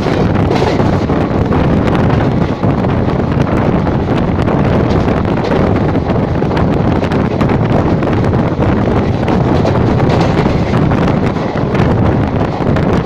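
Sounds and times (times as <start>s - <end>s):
train running at speed: 0.0s - 13.0s
wind buffeting microphone: 0.0s - 13.0s.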